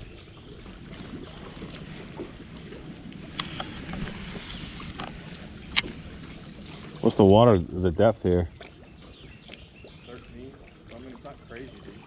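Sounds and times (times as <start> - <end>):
low boat rumble: 0.0 - 12.0
steady wind: 0.0 - 12.0.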